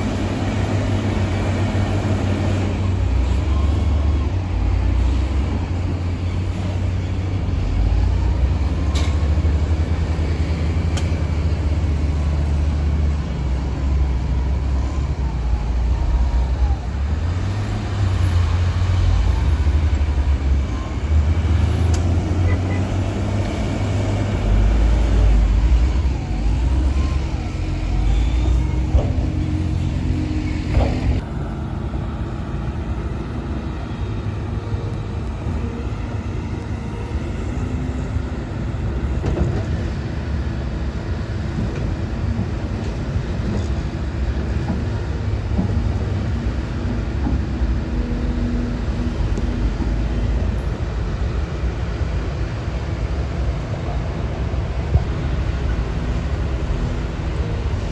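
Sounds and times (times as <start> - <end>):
diesel machinery rumbling: 0.0 - 57.9.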